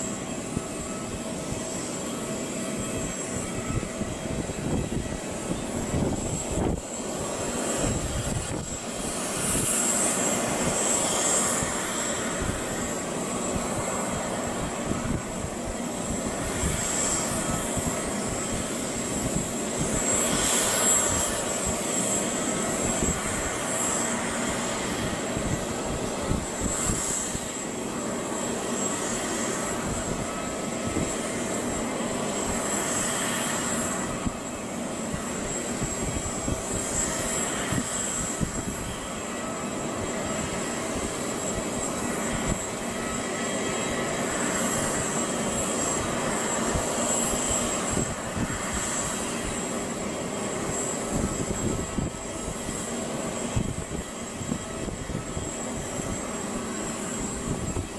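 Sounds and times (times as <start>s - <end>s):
jet engine rush and whine: 0.0s - 57.9s.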